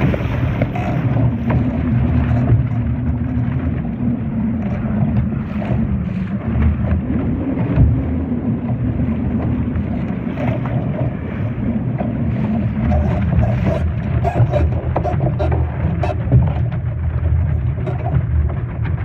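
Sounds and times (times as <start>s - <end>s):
water washing against boat: 0.0s - 19.0s
wind buffeting microphone: 0.0s - 19.0s.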